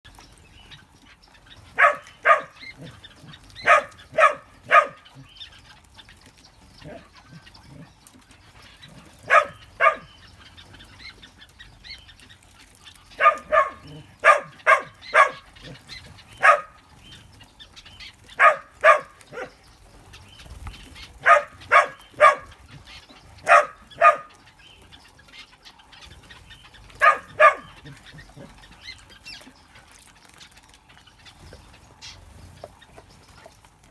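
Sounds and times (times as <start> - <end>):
aviary birds calling: 0.1 - 33.9.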